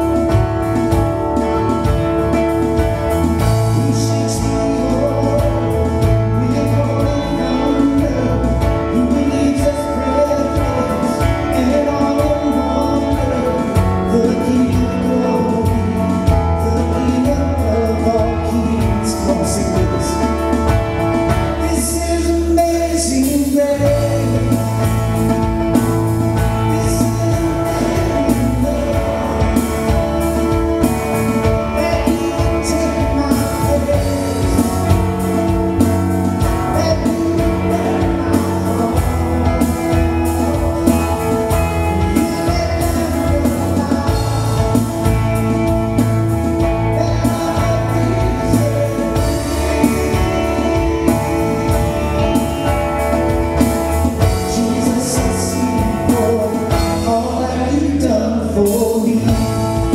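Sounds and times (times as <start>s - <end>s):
band playing: 0.0s - 59.9s
man singing: 0.0s - 59.9s.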